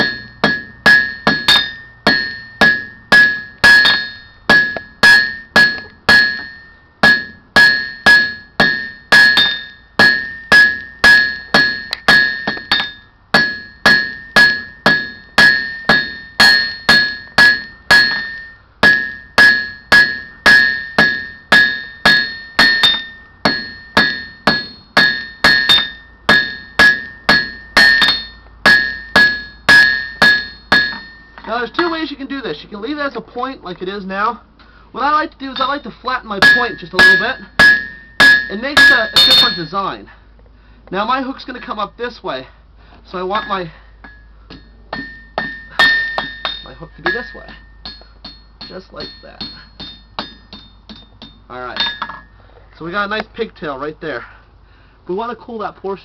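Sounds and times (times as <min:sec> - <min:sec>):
hammer striking iron on anvil: 0:00.0 - 0:32.0, 0:35.5 - 0:39.8, 0:43.3 - 0:52.3
anvil ringing: 0:00.0 - 0:32.1, 0:35.4 - 0:39.9, 0:43.2 - 0:52.4.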